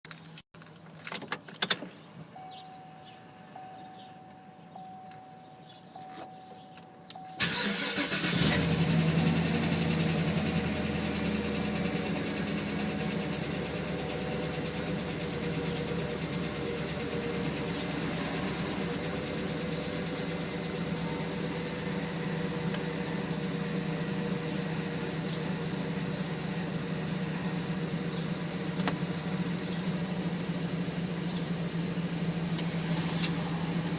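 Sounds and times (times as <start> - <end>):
truck engine cranking and idling: 6.0 - 33.9.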